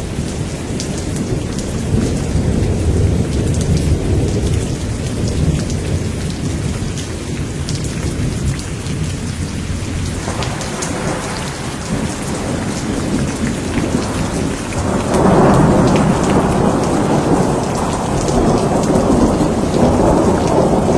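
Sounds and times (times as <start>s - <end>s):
rolling thunder: 0.0s - 20.9s
steady rain pattering: 0.0s - 20.9s.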